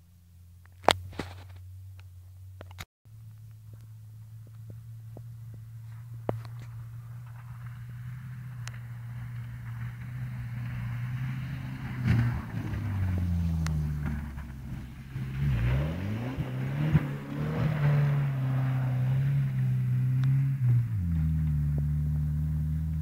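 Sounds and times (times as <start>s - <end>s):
car engine revving: 3.4s - 23.0s.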